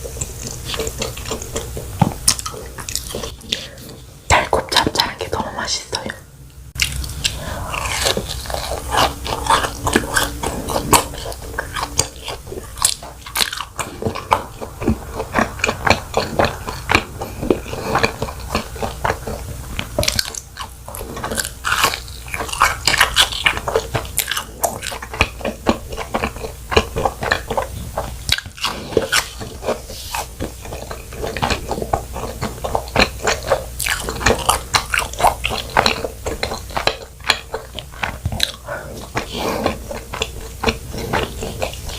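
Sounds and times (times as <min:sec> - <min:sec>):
biting into crisp food: 0:00.0 - 0:05.1, 0:06.8 - 0:41.9
crunchy chewing: 0:00.0 - 0:41.9.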